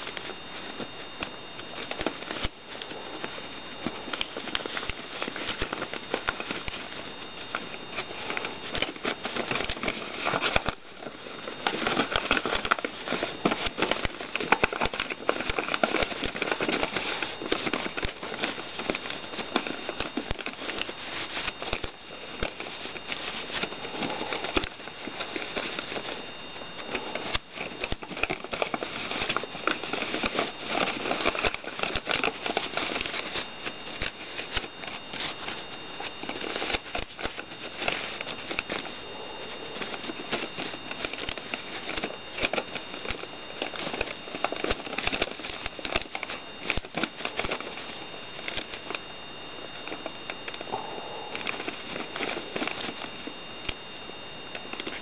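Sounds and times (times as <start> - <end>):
paper rustling and crinkling: 0.0 - 55.0.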